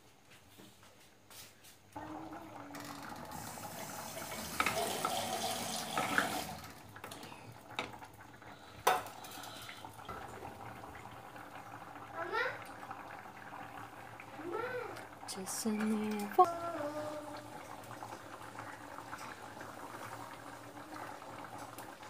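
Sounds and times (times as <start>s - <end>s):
curry simmering in a pot: 2.0s - 22.0s.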